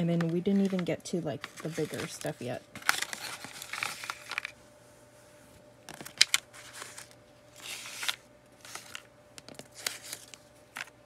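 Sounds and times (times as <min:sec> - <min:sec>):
paper and plastic wrapper rustling: 0:00.0 - 0:04.6, 0:05.9 - 0:10.9.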